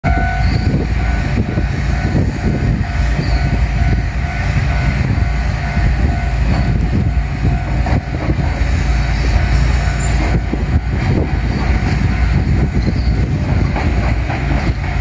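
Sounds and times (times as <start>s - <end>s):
heavy low rumble: 0.0s - 15.0s
level-crossing warning bell ringing: 0.0s - 15.0s.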